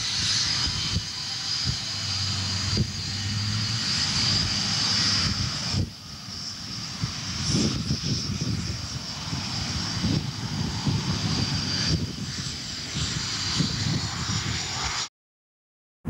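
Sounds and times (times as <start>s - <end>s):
jet engine whine: 0.0s - 15.1s.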